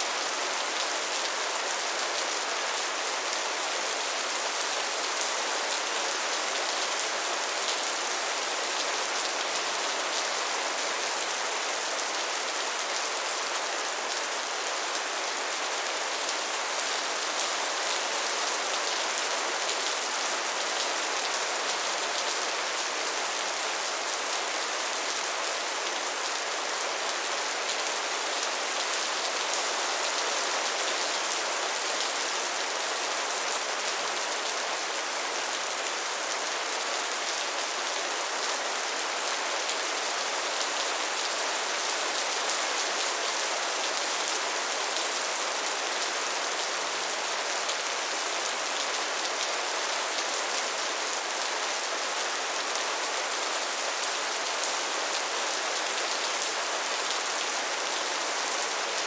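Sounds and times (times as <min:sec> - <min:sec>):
soft steady rain: 0:00.0 - 0:59.0.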